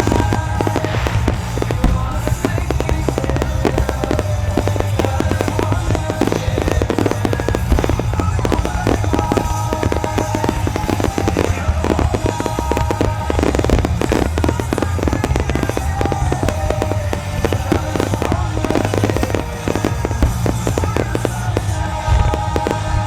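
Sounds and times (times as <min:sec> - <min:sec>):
fireworks bursts and crackles: 0:00.0 - 0:23.0
low rumble: 0:00.0 - 0:23.0
music playing: 0:00.0 - 0:23.0.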